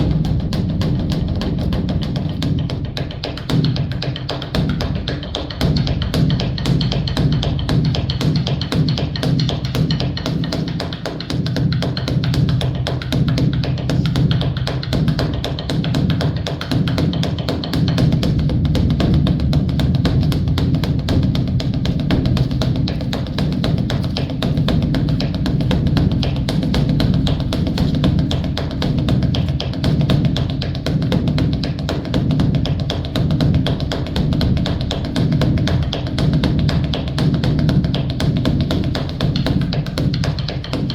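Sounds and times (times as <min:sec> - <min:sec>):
large drum beaten rapidly: 0:00.0 - 0:40.9.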